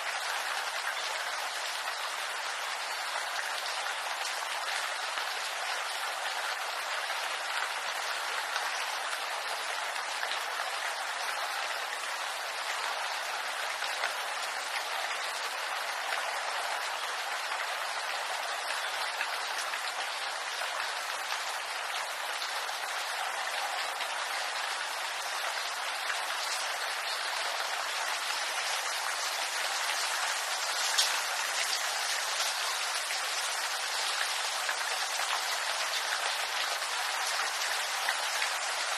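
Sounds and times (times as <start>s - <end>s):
rain on bamboo leaves: 0.0s - 38.9s.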